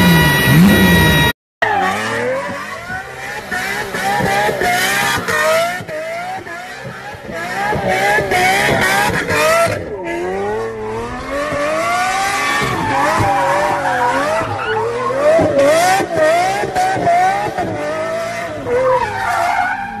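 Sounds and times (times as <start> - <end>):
car engine revving: 0.0 - 20.0
tyres skidding: 0.0 - 20.0.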